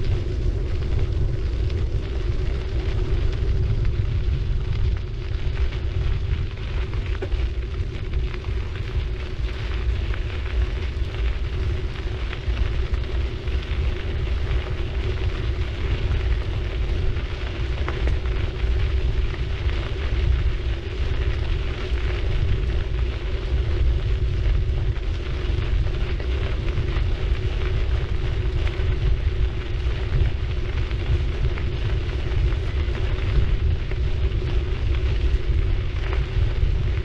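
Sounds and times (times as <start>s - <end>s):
bicycle tyres rolling on road: 0.0s - 37.0s
small ticks and crackles: 0.0s - 37.0s
wind rumbling on microphone: 0.0s - 37.0s.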